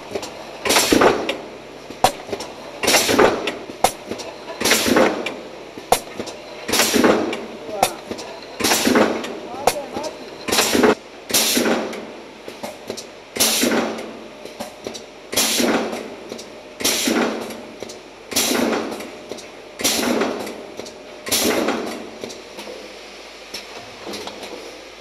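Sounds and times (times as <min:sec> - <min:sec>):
pneumatic clack and rush: 0:00.0 - 0:09.8, 0:10.4 - 0:22.8.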